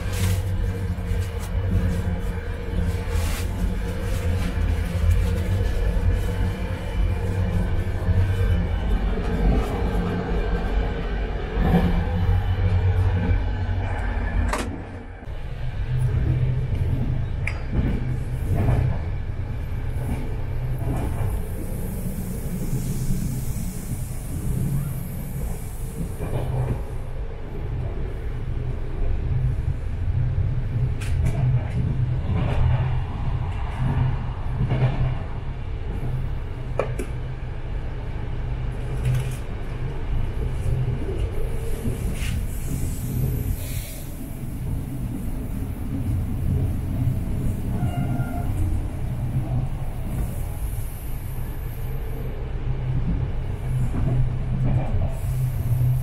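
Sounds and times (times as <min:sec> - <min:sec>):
train carriage rumbling: 0:00.0 - 0:56.0.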